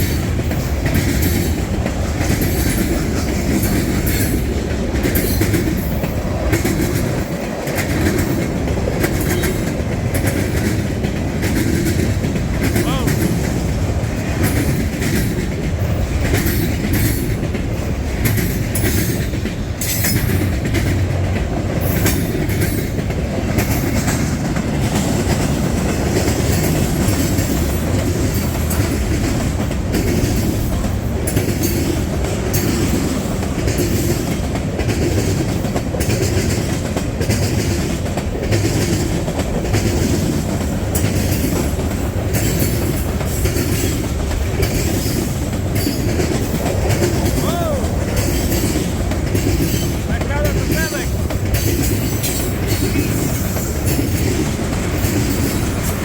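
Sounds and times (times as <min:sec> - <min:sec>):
freight train rolling past: 0:00.0 - 0:56.0
train cars clacking over rail joints: 0:00.0 - 0:56.0.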